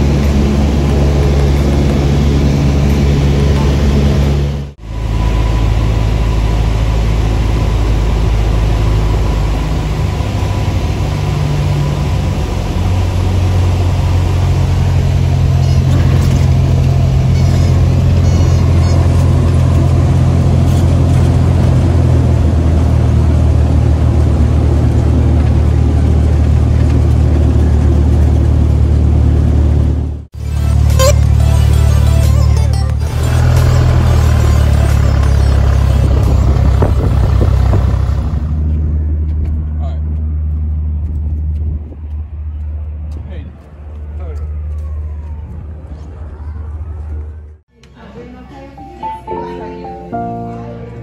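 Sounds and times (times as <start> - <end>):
propeller plane engine droning: 0.0 - 47.6.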